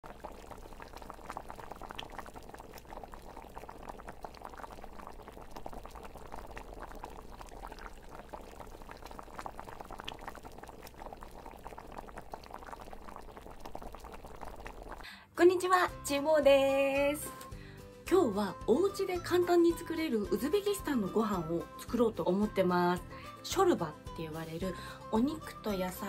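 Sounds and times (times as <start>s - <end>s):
liquid bubbling at a boil: 0.0s - 15.1s, 18.6s - 26.0s.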